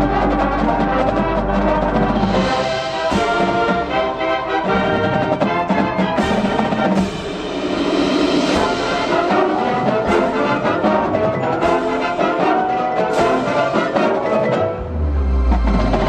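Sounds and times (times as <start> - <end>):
brass sustained chords: 0.0 - 16.0
mallet percussion: 0.0 - 16.0
sharp percussion strikes: 0.0 - 16.0
timpani: 0.0 - 16.0.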